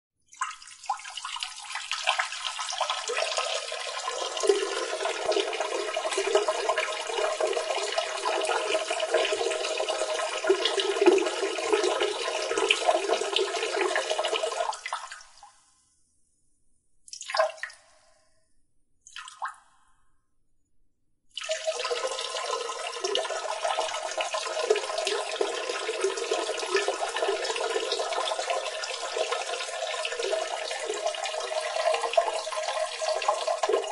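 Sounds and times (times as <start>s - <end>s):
water running: 0.3s - 15.2s, 21.4s - 33.9s.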